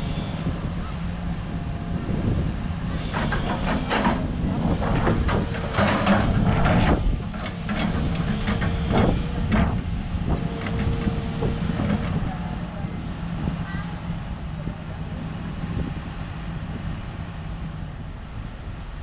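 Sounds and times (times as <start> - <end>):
backhoe engine running: 0.0 - 18.2.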